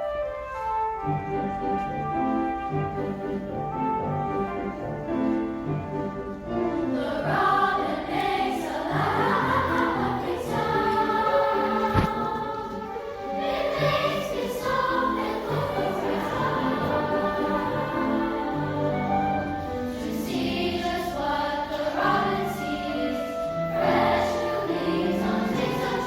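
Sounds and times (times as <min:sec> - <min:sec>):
piano chords: 0:00.8 - 0:26.0
choir singing: 0:01.4 - 0:26.0.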